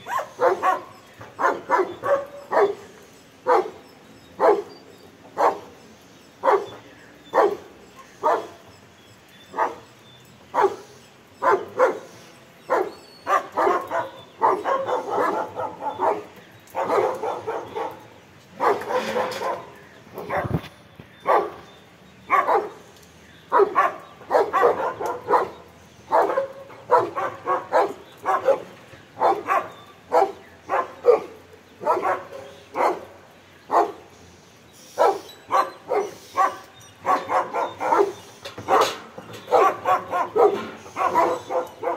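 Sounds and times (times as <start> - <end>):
dogs barking: 0.0 - 5.8, 6.4 - 8.7, 9.5 - 22.8, 23.5 - 34.1, 34.9 - 41.9.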